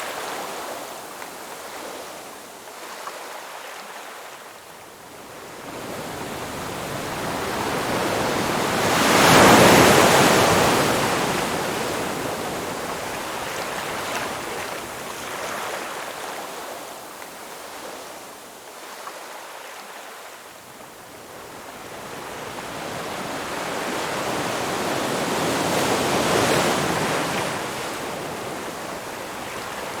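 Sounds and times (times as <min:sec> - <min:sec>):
ocean waves breaking on shore: 0:00.0 - 0:20.4, 0:21.2 - 0:30.0.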